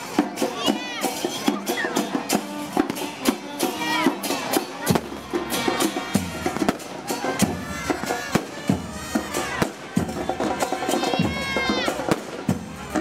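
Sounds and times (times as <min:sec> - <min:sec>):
bass drums and cymbals: 0:00.0 - 0:13.0.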